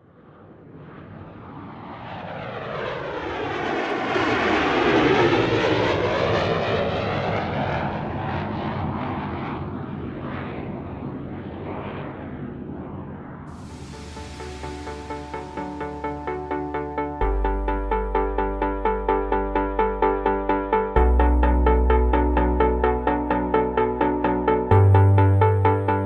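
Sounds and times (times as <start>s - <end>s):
aircraft engine flying past: 0.0s - 21.0s.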